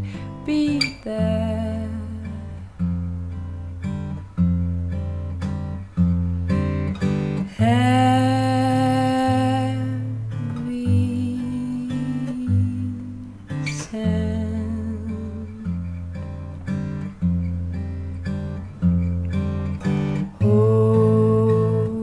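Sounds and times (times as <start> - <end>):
fingerpicked acoustic guitar: 0.0 - 22.0.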